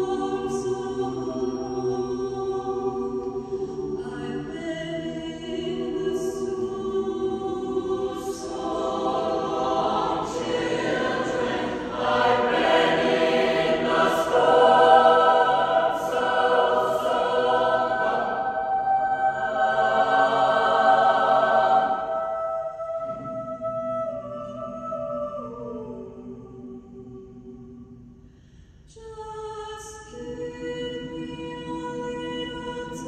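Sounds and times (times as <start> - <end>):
mixed choir singing: 0.0 - 27.9, 30.2 - 33.0.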